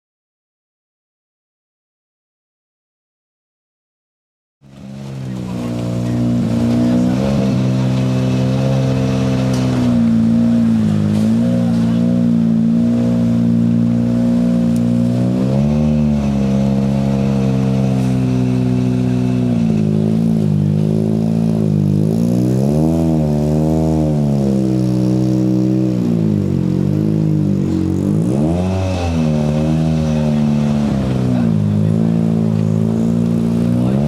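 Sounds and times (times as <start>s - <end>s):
rally car engine revving: 4.6s - 34.0s.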